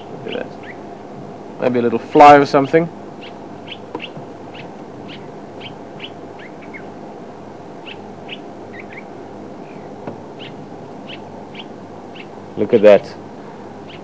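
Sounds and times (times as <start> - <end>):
birds chirping: 0.0 - 14.0
low background hiss: 0.0 - 14.0.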